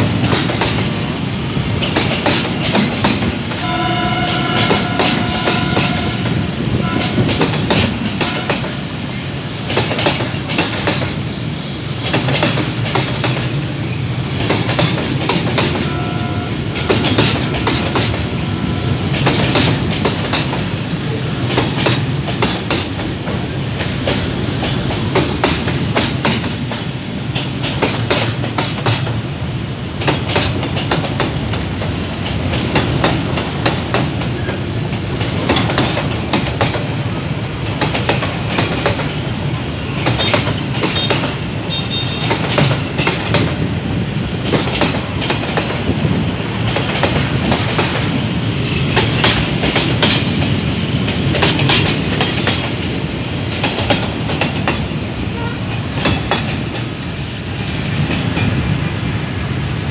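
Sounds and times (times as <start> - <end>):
wheels clattering over rail joints: 0.0 - 16.1, 19.1 - 29.3, 30.0 - 55.1, 55.7 - 58.8
freight train rolling past: 0.0 - 59.9.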